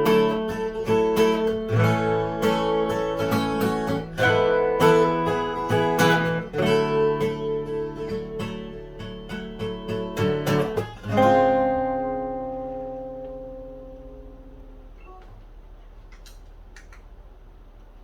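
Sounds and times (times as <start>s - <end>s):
acoustic guitar plucked: 0.0s - 15.2s.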